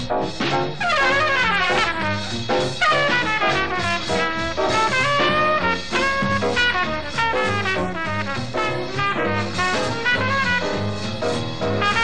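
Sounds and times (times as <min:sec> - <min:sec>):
swing jazz with brass: 0:00.0 - 0:12.0.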